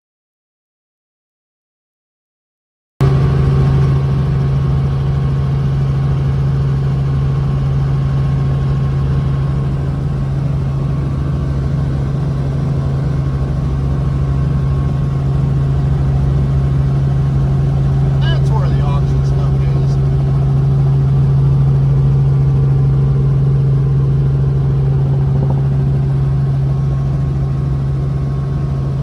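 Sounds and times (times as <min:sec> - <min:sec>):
engine running with low hum: 0:03.0 - 0:29.0.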